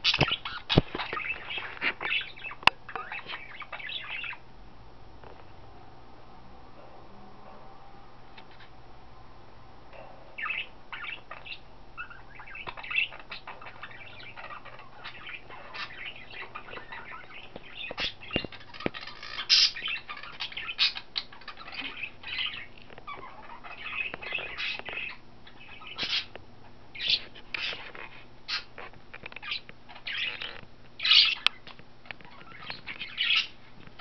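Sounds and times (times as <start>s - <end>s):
budgerigars chirping: 0.0s - 4.4s, 10.4s - 33.7s.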